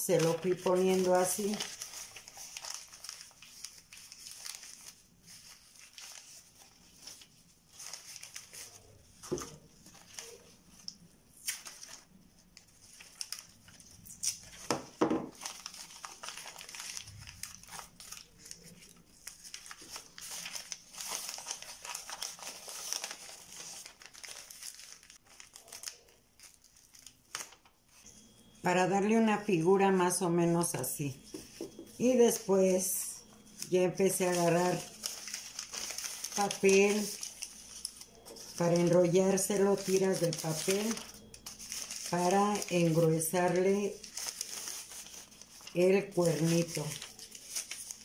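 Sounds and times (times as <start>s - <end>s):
newspaper rustling and crinkling: 0.0s - 48.0s.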